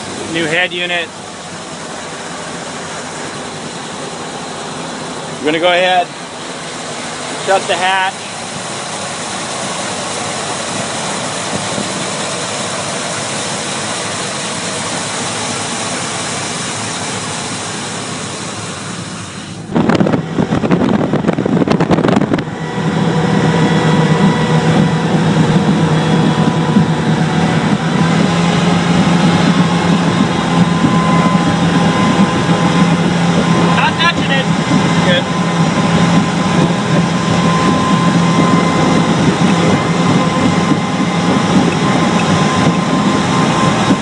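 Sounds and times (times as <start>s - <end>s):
boat engines droning: 0.0s - 44.0s.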